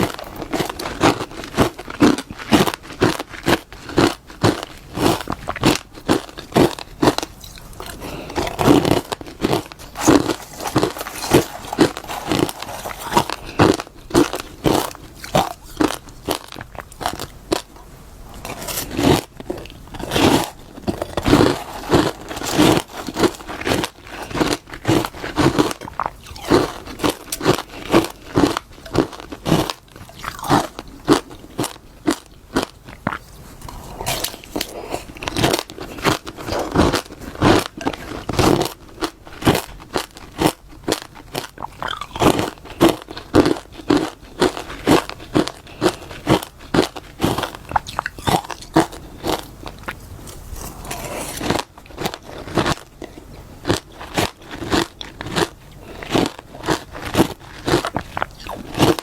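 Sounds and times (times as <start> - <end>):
chewing crunchy frost: 0.0 - 59.0.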